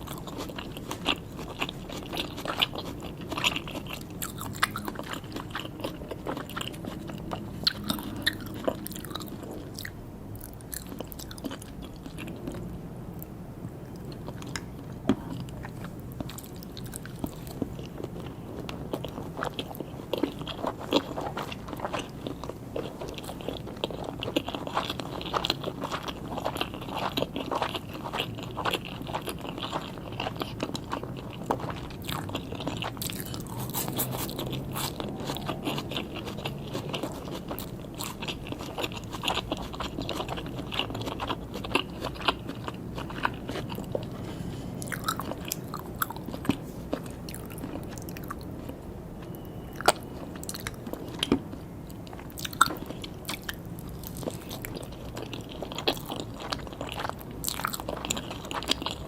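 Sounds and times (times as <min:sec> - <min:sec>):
chewing and biting food: 0:00.0 - 0:59.0.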